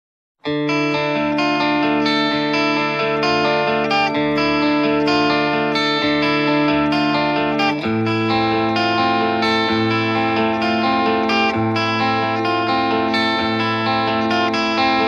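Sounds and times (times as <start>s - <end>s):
instrumental music sustained chords: 0.5s - 15.0s.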